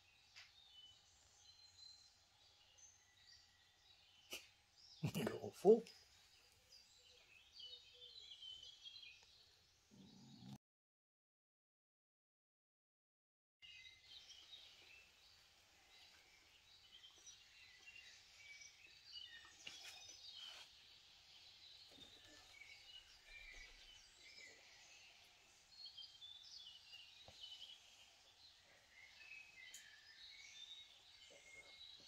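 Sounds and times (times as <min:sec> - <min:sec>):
small birds chirping: 0:00.0 - 0:10.6, 0:13.6 - 0:32.0.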